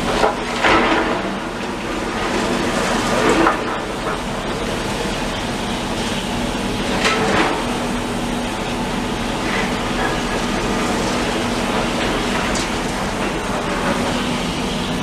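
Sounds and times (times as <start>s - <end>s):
demolition machinery engine hum: 0.0s - 15.0s.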